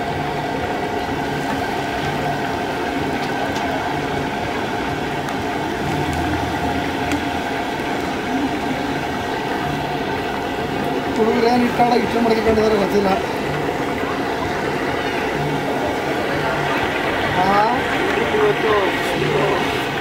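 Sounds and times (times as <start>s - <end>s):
oil bubbling and sizzling: 0.0s - 20.0s
steady hum: 0.0s - 20.0s.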